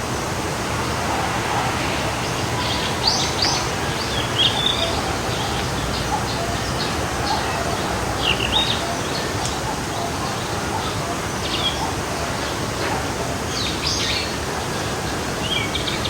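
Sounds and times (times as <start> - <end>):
stream flowing: 0.0 - 16.0.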